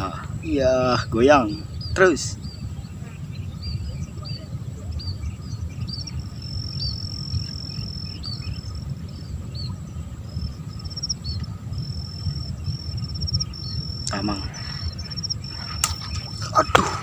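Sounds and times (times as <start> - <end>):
insects trilling: 0.0 - 17.0
low rumbling noise: 0.0 - 17.0.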